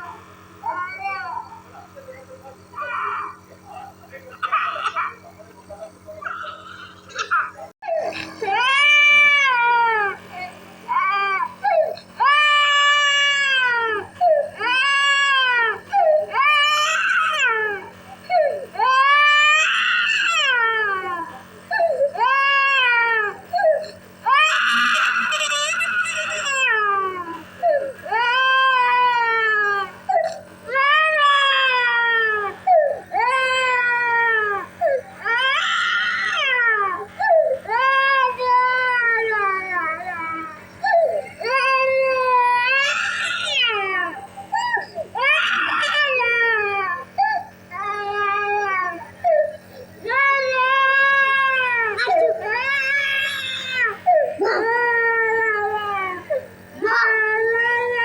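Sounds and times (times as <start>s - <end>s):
nebuliser compressor hum: 0.0s - 58.0s
small child crying: 10.9s - 58.0s.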